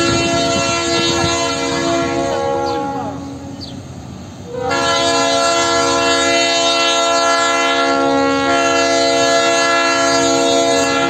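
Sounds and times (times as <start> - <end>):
locomotive air horn blast: 0.0 - 3.7, 4.4 - 11.0.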